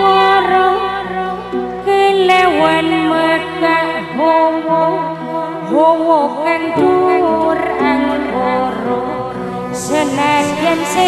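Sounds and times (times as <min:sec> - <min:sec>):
held accompaniment notes: 0:00.0 - 0:11.0
woman singing into microphone: 0:00.0 - 0:11.0.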